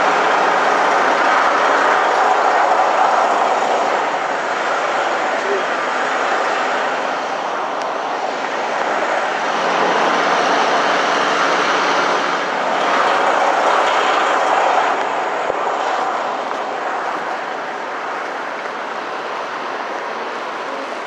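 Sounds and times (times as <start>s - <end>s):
diesel truck engines running: 0.0s - 21.0s.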